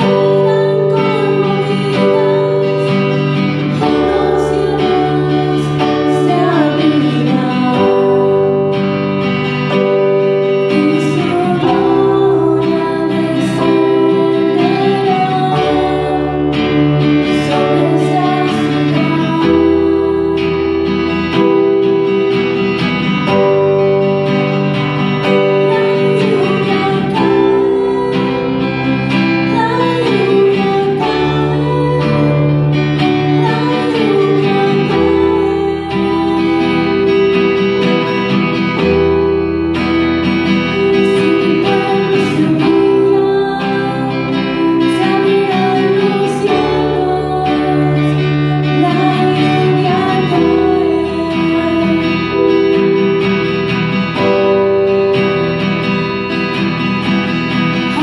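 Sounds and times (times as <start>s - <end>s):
woman singing: 0.0s - 23.6s, 25.0s - 39.9s, 40.5s - 54.6s, 57.7s - 58.0s
bass line: 0.0s - 58.0s
electronic keyboard: 0.0s - 58.0s
guitar: 0.0s - 58.0s.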